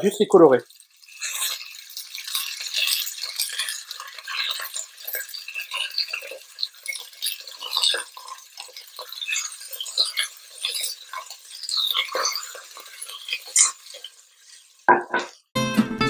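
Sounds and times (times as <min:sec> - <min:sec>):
meat sizzling in hot oil: 0:00.0 - 0:14.9.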